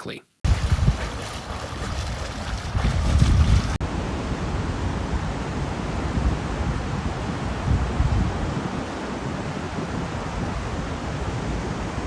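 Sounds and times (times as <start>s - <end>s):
wind buffeting microphone: 0.4s - 12.0s.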